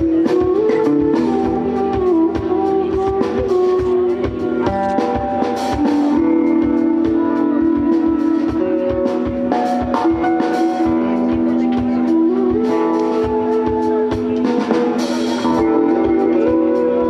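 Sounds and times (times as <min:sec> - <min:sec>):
bamboo flute melody: 0:00.0 - 0:17.0
drum kit beat: 0:00.0 - 0:17.0.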